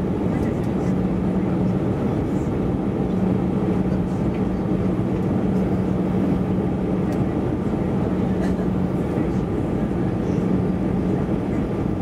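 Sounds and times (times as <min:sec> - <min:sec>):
airflow rushing in cabin: 0:00.0 - 0:12.0
low jet engine hum: 0:00.0 - 0:12.0.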